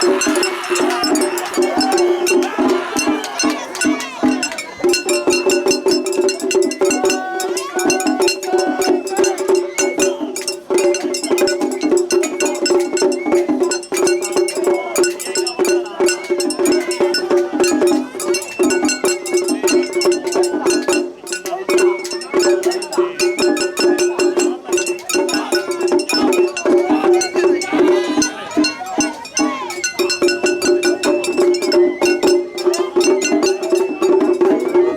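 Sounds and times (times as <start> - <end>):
bamboo flute melody: 0.0 - 34.9
fast drum beat: 0.0 - 34.9.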